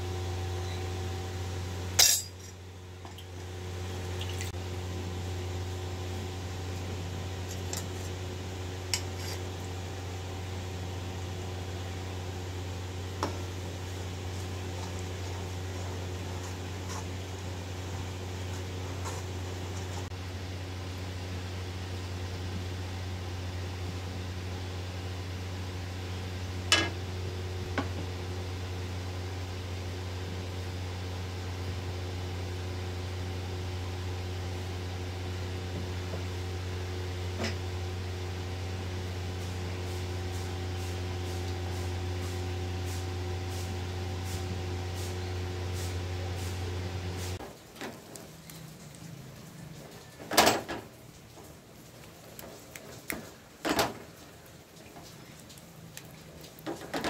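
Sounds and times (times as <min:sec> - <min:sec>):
appliance motor hum: 0:00.0 - 0:57.0.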